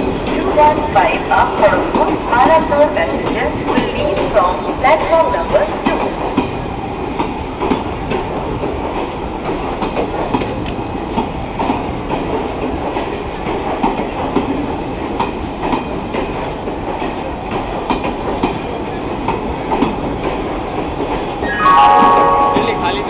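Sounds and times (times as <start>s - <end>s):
train wheels clicking over rail joints: 0.0s - 21.5s
train rumble: 0.0s - 23.0s.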